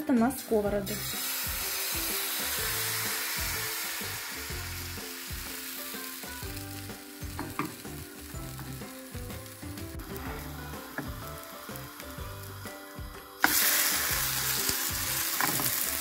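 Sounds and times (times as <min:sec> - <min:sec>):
batter sizzling in a frying pan: 0:00.4 - 0:16.0.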